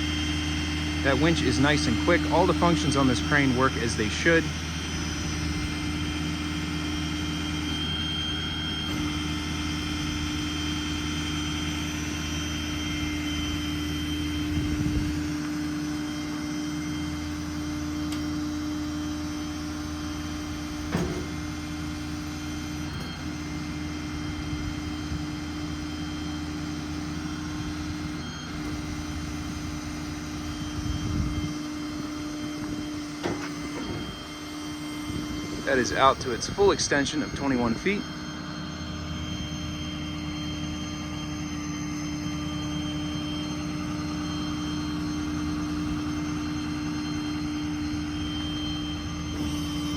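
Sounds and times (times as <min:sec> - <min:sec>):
diesel engine low hum: 0:00.0 - 0:49.9
hydraulic whine: 0:00.0 - 0:49.9.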